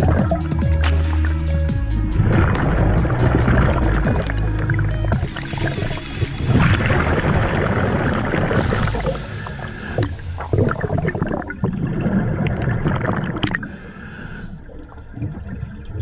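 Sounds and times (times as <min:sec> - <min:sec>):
low rumble: 0:00.0 - 0:13.3
underwater air bubbling: 0:00.0 - 0:16.0.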